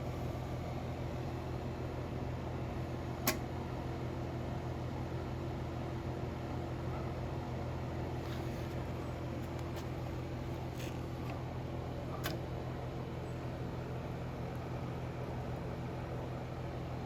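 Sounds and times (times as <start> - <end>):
fan noise: 0.0 - 17.0.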